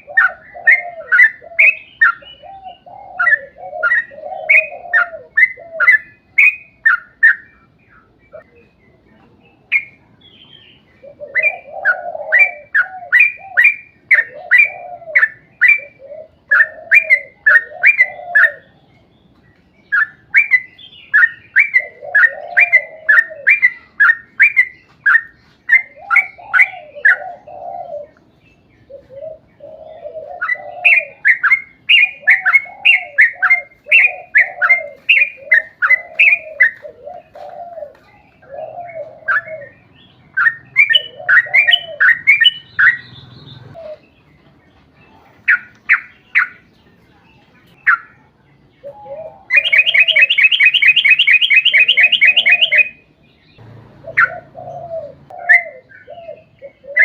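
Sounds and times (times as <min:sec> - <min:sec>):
bulbul singing: 0:00.0 - 0:57.0.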